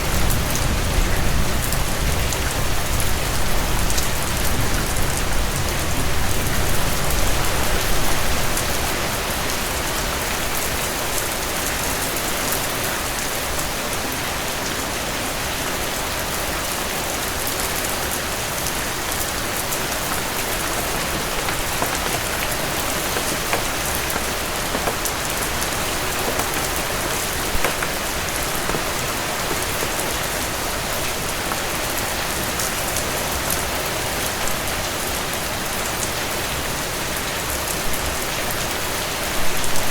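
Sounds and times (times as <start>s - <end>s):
heavy rain on porch: 0.0s - 39.9s.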